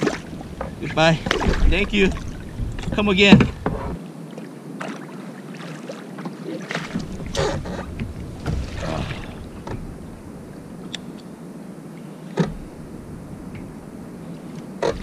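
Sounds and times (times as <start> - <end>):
paddle strokes splashing water: 0.0 - 11.2, 12.2 - 15.0.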